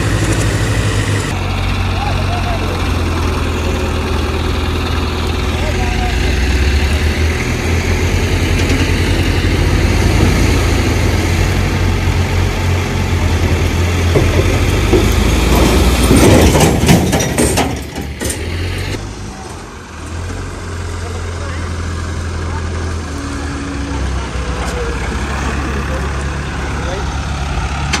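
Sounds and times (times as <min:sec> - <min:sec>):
diesel crane engine running: 0:00.0 - 0:28.0.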